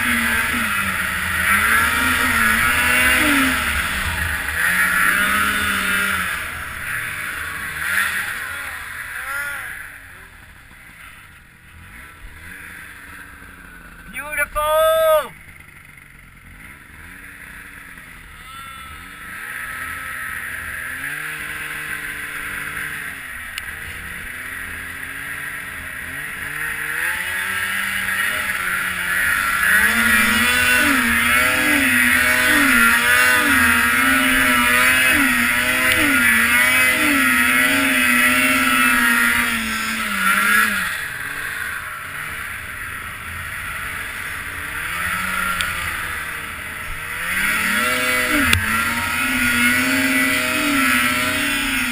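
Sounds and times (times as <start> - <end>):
snowmobile engine revving: 0.0 - 51.9.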